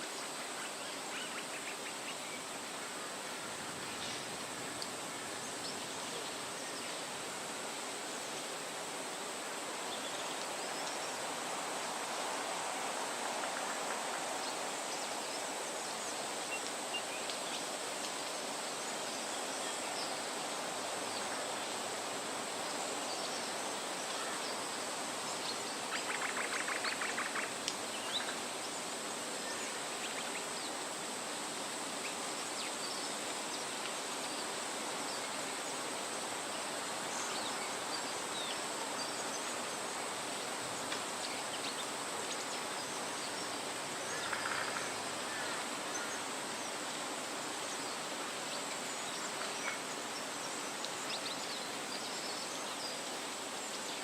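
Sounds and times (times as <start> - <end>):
wind rustling through trees: 0.0 - 54.0.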